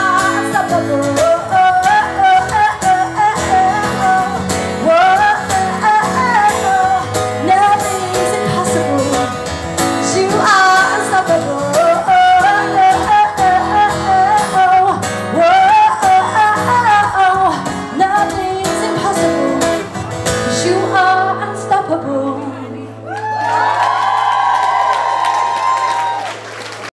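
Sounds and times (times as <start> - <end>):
instrumental pop backing: 0.0 - 22.8
woman singing into a microphone: 0.0 - 23.3.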